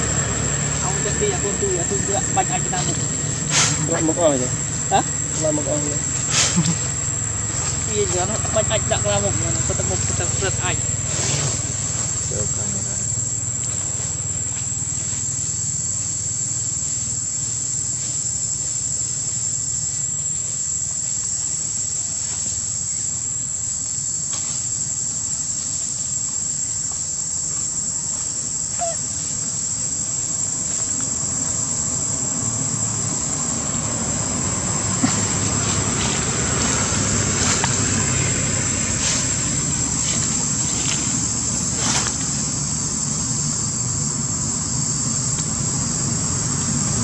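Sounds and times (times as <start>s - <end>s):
high-pitched insect drone: 0.0s - 47.0s.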